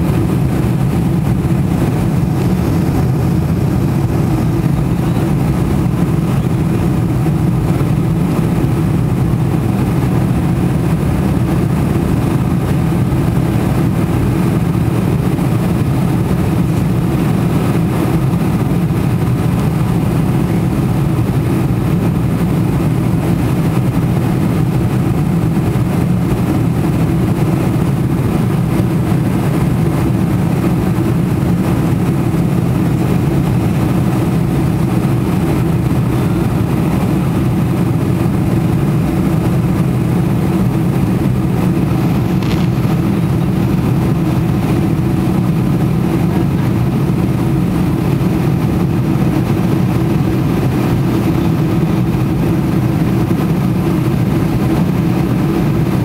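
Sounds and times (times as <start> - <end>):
jet engines droning: 0.0 - 56.0
rushing air: 0.0 - 56.0.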